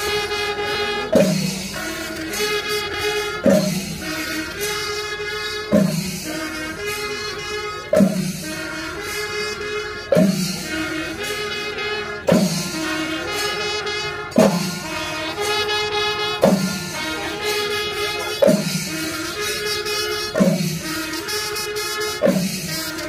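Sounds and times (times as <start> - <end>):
sustained brass-like tones: 0.0 - 23.0.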